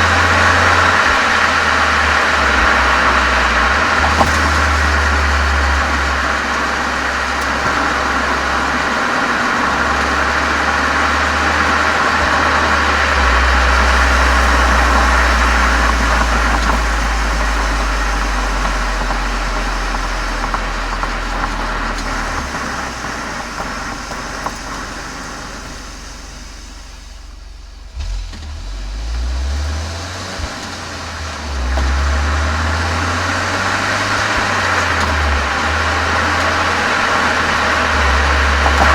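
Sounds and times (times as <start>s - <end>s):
car exhaust rumble with hiss: 0.0s - 38.9s.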